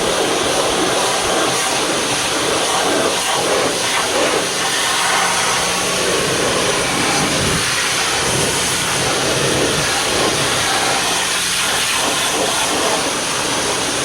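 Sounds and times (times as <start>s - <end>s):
faint motor hum: 0.0s - 14.0s
hissing spray of cleaning equipment: 0.0s - 14.0s.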